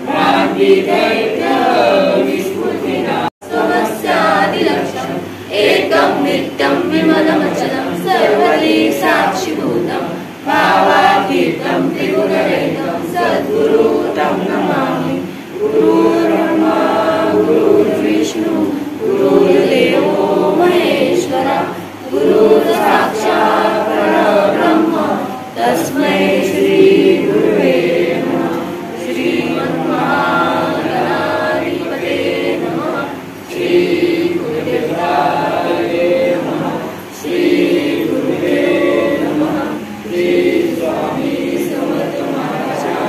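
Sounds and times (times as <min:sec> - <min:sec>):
group singing devotional song: 0:00.0 - 0:43.0.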